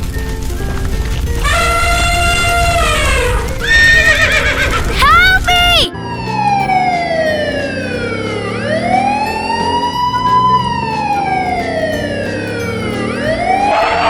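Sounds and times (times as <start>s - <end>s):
emergency siren wailing: 1.4s - 4.6s, 5.9s - 14.0s.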